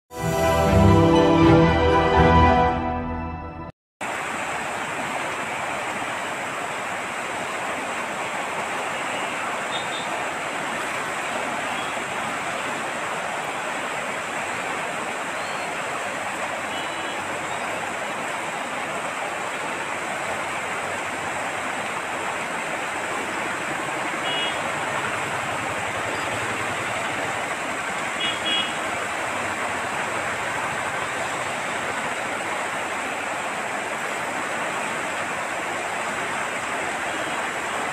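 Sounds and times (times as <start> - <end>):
floodwater rushing: 4.0 - 37.9.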